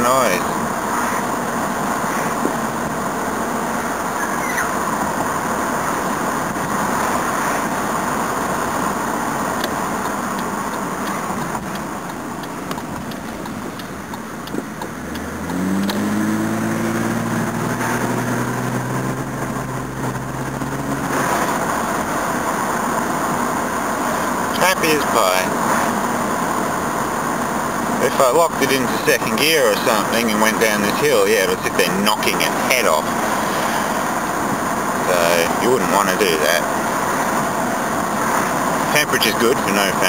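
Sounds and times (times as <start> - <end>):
car engine running: 0.0 - 40.0
low engine hum: 0.0 - 40.0
road noise: 0.0 - 40.0.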